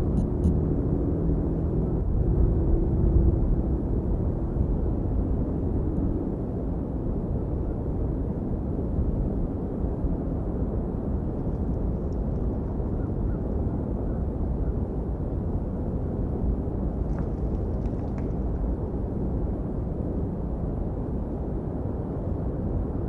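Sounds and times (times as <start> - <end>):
faint engine drone: 0.0 - 23.0
wind buffeting microphone: 2.0 - 23.0.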